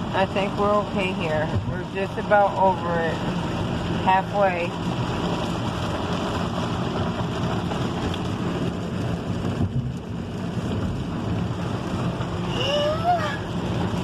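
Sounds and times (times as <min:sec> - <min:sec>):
car engine hum: 0:00.0 - 0:14.0
heavy rain: 0:00.0 - 0:14.0
wet tyres on road: 0:00.0 - 0:14.0.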